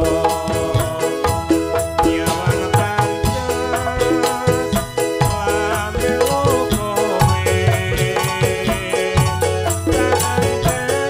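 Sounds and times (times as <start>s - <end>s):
drum beat: 0.0s - 11.0s
jingling percussion: 0.0s - 11.0s
sustained pitched melody: 0.0s - 11.0s.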